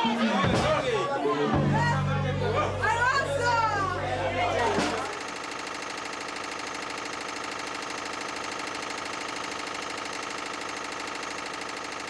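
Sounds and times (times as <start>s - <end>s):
diesel engine running: 1.6s - 12.0s.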